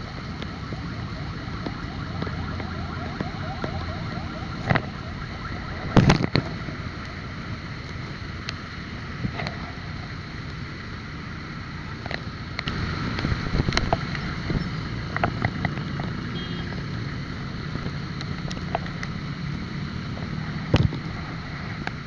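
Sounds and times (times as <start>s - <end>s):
road rumble from bike: 0.0s - 22.0s.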